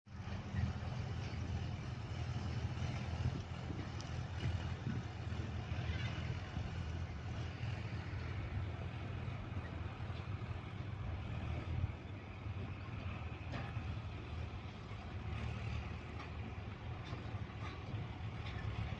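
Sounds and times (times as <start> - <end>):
tractor engine droning: 0.1 - 18.9.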